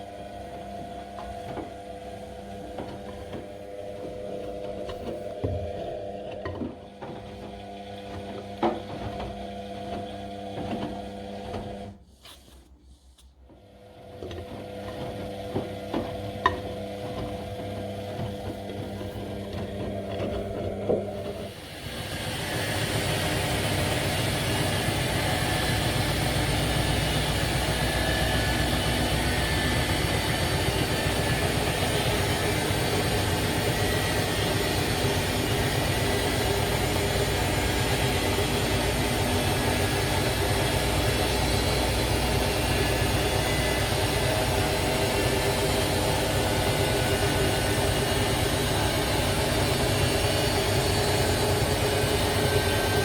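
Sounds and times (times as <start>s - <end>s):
washing machine drum spinning: 0.0s - 11.9s, 13.9s - 53.0s
water sloshing in washing machine: 0.0s - 12.4s, 13.5s - 53.0s.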